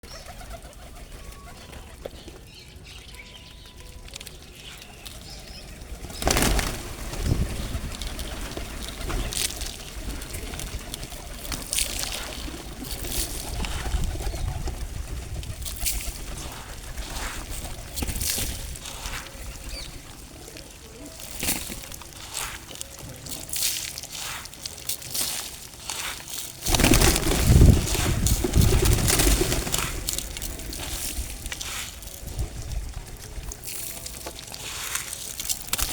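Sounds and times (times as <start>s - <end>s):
birds' wings flapping: 0.1s - 3.0s, 3.6s - 35.9s.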